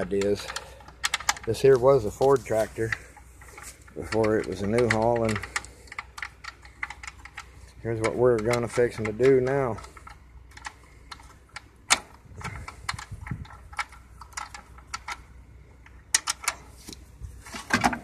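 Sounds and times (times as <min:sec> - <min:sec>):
light clicks and taps: 0:00.0 - 0:15.2.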